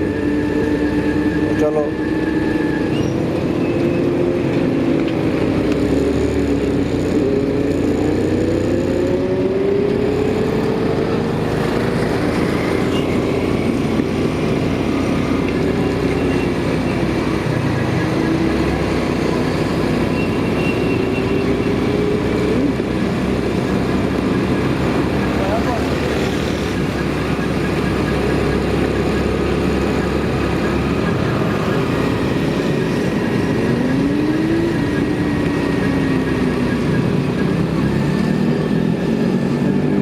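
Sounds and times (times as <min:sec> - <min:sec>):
road noise: 0:00.0 - 0:40.0.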